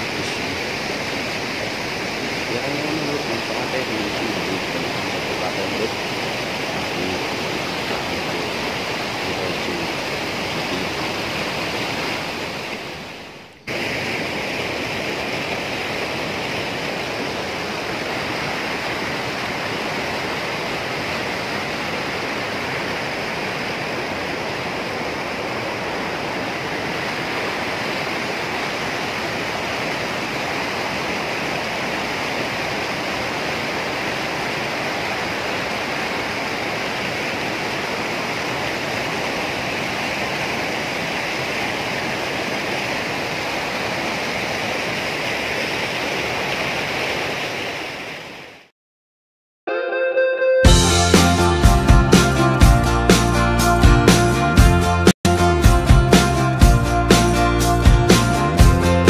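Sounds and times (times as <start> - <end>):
mountain stream and waterfall: 0.0 - 48.7.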